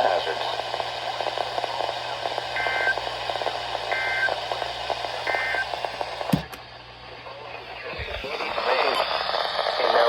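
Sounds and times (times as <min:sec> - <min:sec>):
crackly radio static: 0:00.0 - 0:10.0.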